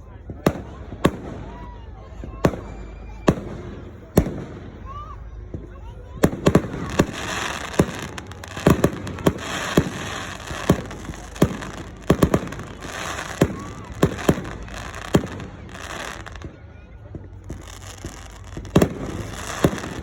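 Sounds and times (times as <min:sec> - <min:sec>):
firework bangs: 0:00.2 - 0:20.0
firework crackling: 0:00.3 - 0:20.0.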